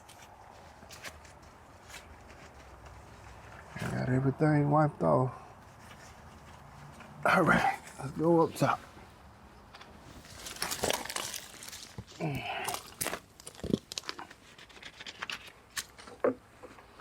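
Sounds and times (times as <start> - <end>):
rustling and crinkling: 0.0 - 4.1, 5.5 - 17.0.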